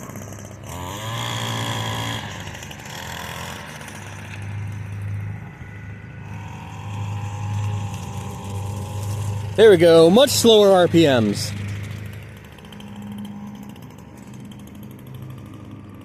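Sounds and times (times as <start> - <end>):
riding mower engine running: 0.0 - 16.0
string trimmer revving: 0.0 - 16.0.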